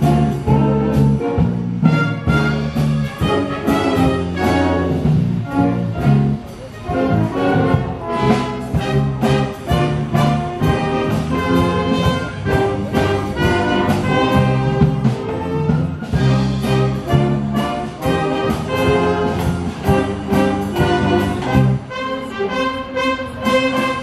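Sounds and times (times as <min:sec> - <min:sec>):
wind band playing: 0:00.0 - 0:24.0.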